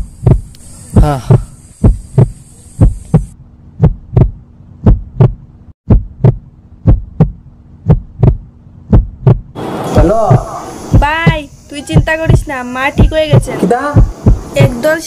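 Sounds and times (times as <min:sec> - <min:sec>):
heartbeat thumps: 0:00.0 - 0:15.0.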